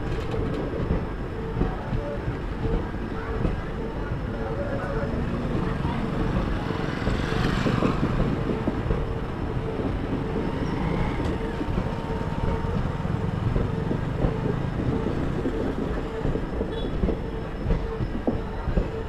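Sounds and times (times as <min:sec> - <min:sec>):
train wheels rumbling on rails: 0:00.0 - 0:19.0
wheels clacking over rail joints: 0:00.0 - 0:19.0.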